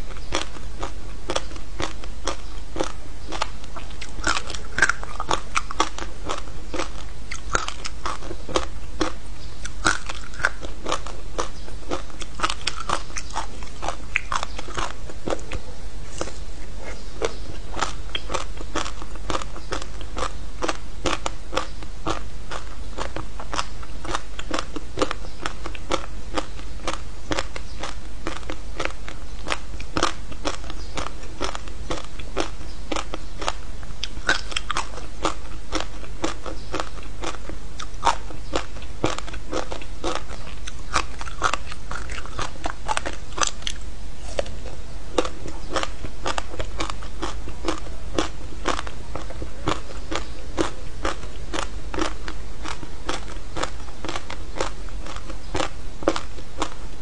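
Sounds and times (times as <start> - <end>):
crunching frozen fruit: 0.0 - 56.8
chewing: 0.1 - 56.8.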